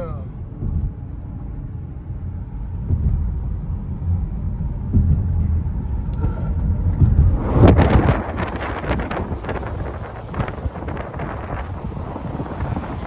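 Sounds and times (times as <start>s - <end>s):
car engine and road rumble: 0.0s - 13.0s
wind rush on microphone: 0.3s - 13.0s.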